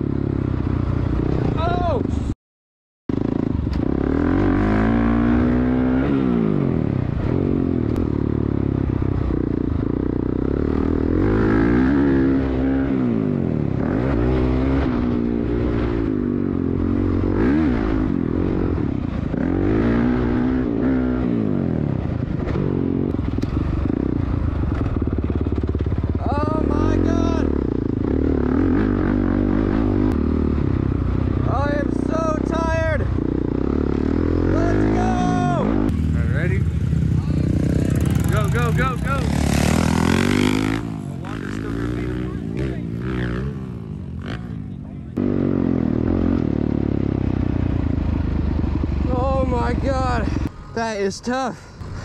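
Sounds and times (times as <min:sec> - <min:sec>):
motocross bike engine revving: 0:03.1 - 0:52.0.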